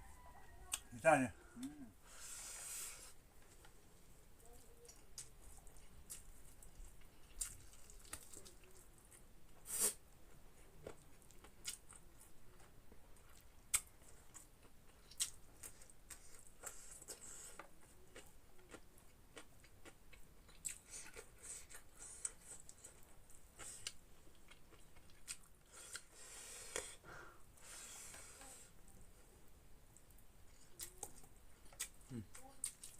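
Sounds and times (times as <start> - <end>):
mouth chewing food: 3.0 - 27.0, 27.6 - 32.9.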